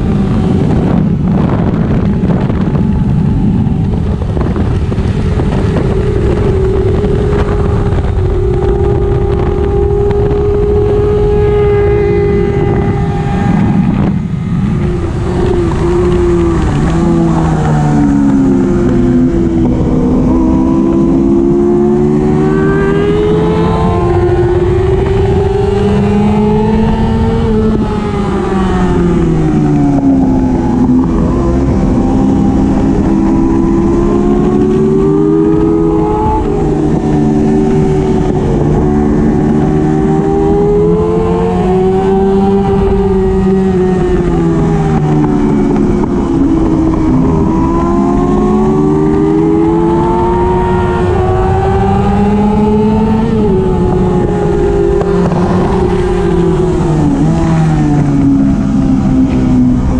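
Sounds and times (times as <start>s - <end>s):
motorcycle engine at racing speed: 0.0s - 59.9s
rush of wind: 0.0s - 59.9s.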